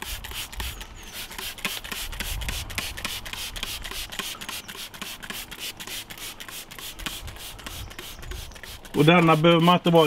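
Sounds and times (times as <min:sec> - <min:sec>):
spray bottle hisses: 0:00.0 - 0:09.7.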